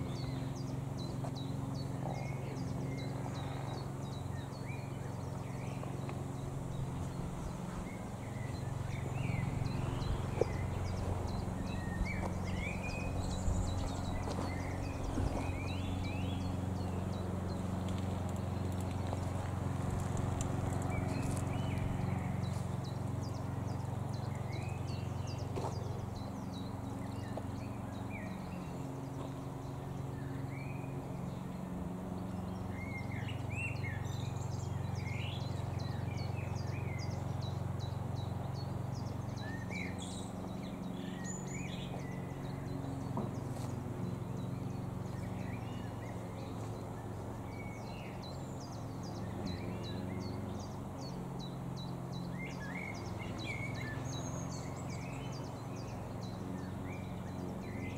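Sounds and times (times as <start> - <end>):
songbirds chirping: 0.0 - 57.9
steady low drone: 0.0 - 57.9.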